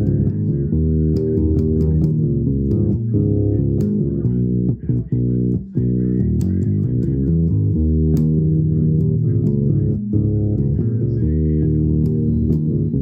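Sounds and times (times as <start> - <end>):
bass guitar plucked notes: 0.0 - 13.0.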